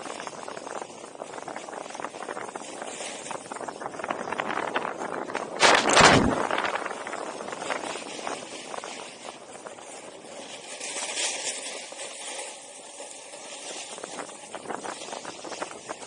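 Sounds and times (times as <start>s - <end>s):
wind buffeting microphone: 0.0s - 10.8s, 13.7s - 16.0s
snowboard scraping over snow: 0.0s - 16.0s.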